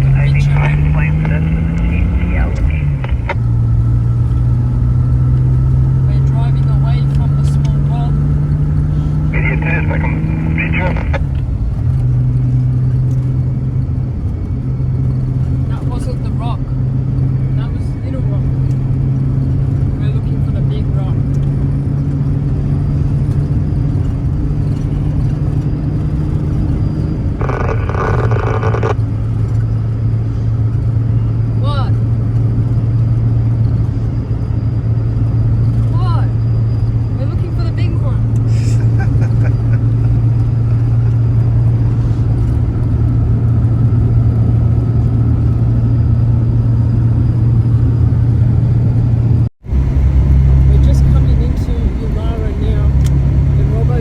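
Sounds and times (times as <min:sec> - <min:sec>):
car engine and road hum: 0:00.0 - 0:54.0.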